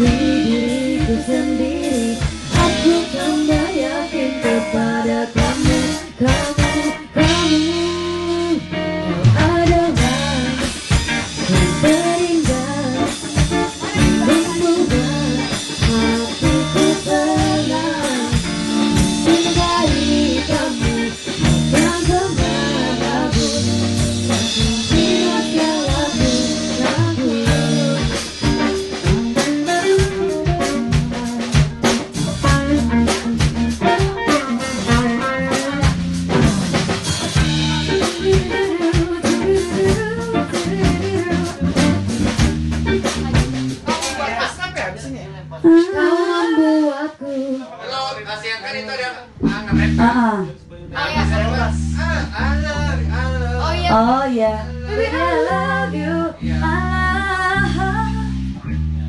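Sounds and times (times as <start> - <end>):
woman singing into a microphone: 0.0 - 32.8, 33.8 - 42.0, 45.7 - 47.7, 53.6 - 58.3
band music with drum kit: 0.0 - 47.7, 49.2 - 59.0.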